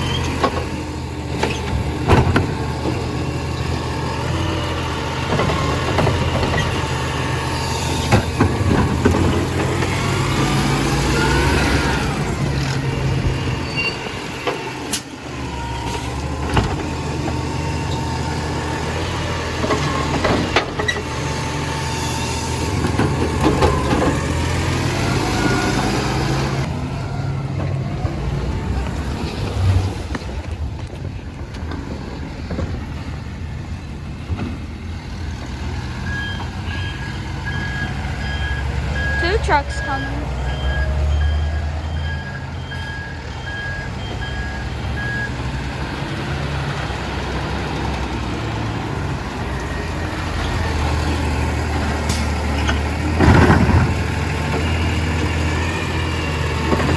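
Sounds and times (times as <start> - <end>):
truck engine running: 0.0 - 56.9.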